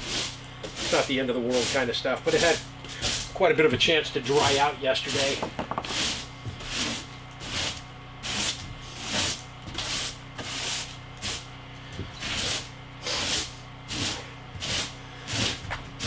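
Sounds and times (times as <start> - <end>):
broom sweeping a wooden floor: 0.0 - 16.0.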